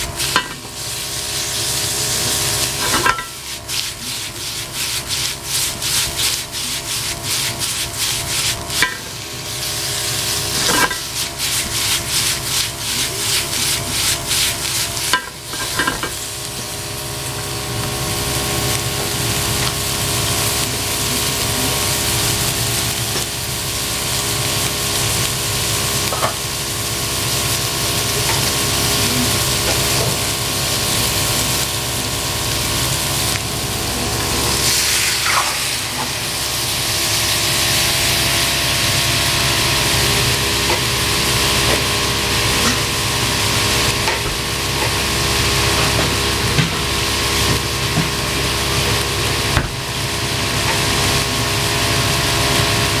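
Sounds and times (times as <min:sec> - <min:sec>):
meat sizzling in a frying pan: 0:00.0 - 0:53.0
meat stirred in a pan rasping: 0:00.0 - 0:53.0.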